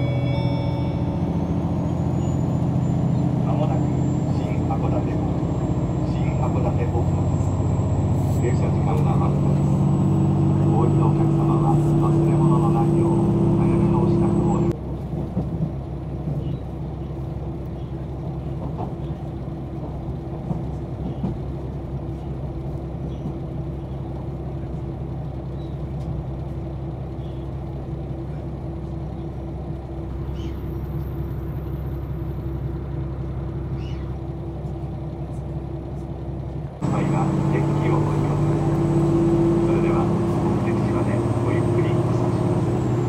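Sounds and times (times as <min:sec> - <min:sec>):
railcar engine hum and rumble: 0:00.0 - 0:43.0.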